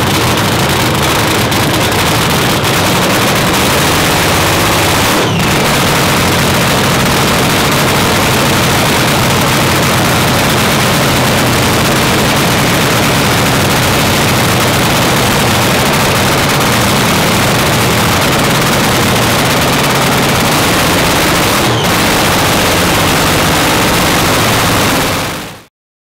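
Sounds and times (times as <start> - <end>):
loud dragster engine running: 0.0 - 25.7.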